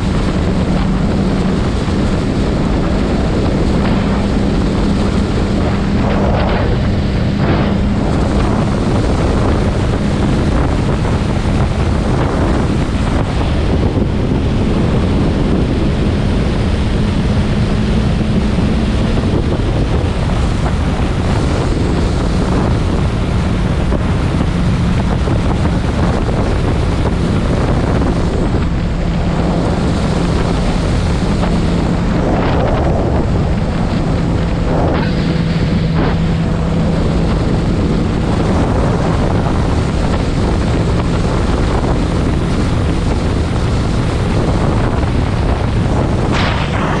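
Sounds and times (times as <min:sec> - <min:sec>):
motorcycle engine hum: 0:00.0 - 0:47.0
wind rushing over microphone: 0:00.0 - 0:47.0.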